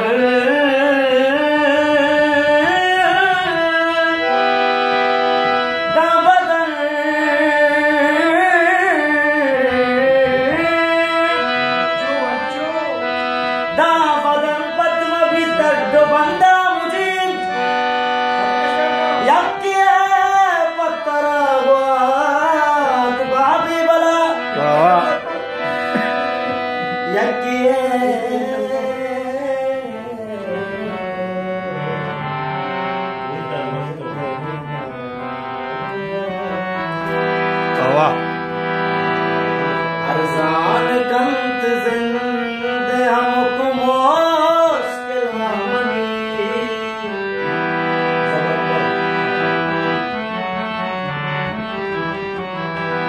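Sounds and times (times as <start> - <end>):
sliding melody over accompaniment: 0.0 - 53.0.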